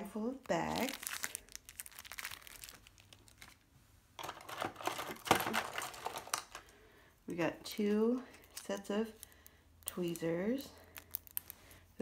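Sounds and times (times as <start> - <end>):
plastic bags crinkling: 0.0 - 6.8, 8.3 - 11.8.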